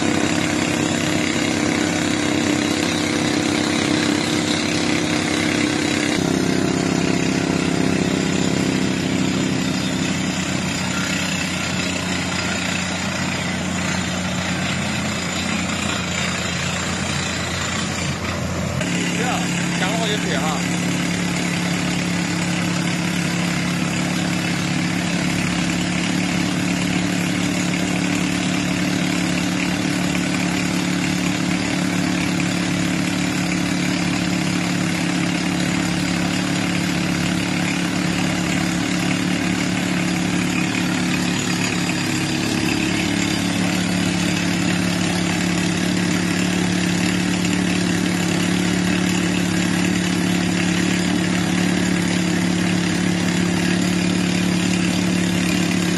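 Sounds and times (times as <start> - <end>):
air compressor running: 0.0 - 55.9
diesel engine running: 0.0 - 55.9.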